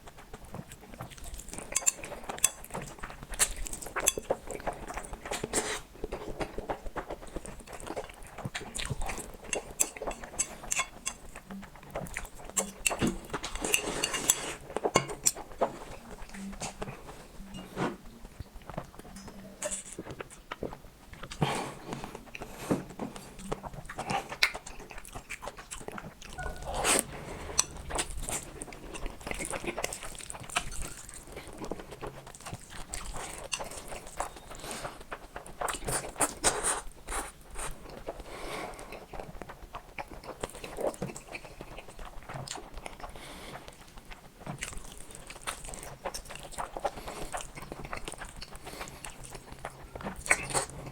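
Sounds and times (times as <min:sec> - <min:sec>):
person chewing noodles: 0:00.0 - 0:50.9.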